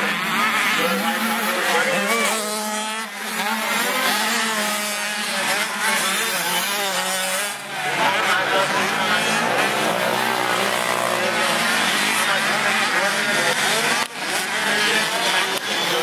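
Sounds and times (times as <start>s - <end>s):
motocross bikes racing: 0.0s - 16.0s.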